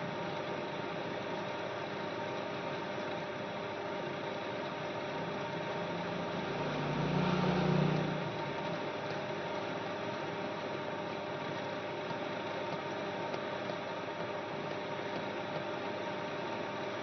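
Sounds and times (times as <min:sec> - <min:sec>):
fan whirring: 0:00.0 - 0:17.0
steady electrical hum: 0:00.0 - 0:17.0.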